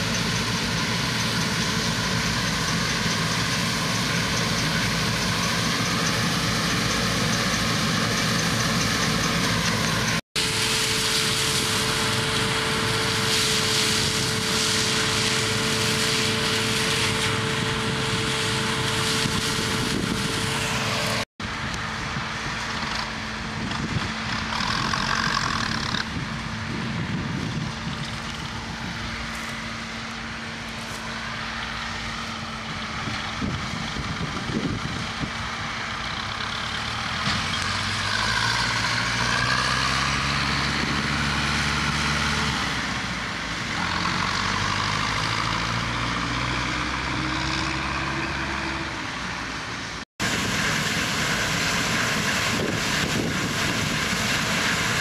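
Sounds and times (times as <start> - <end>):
combine harvester drone: 0.0 - 55.0.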